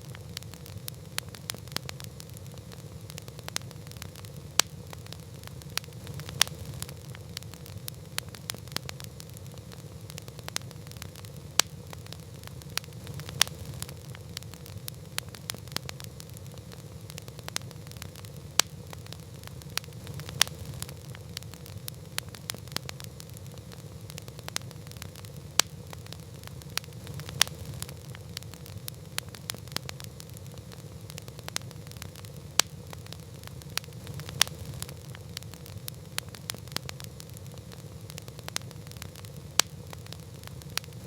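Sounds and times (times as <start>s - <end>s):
campfire crackling and popping: 0.0s - 41.0s
low fire rumble: 0.0s - 41.0s.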